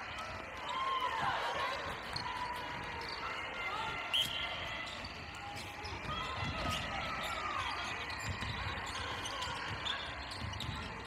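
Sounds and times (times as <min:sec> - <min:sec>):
trainers thudding and squeaking on wood: 0:01.8 - 0:11.0.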